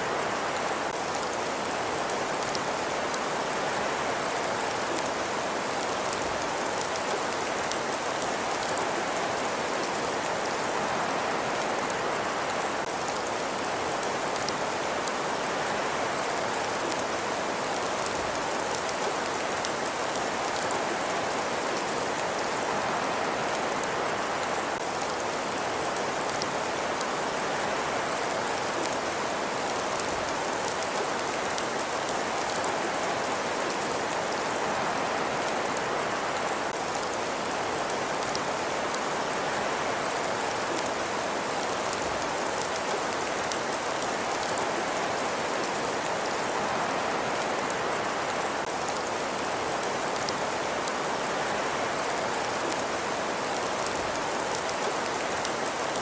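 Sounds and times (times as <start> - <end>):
steady rain-like hiss: 0.0 - 56.0.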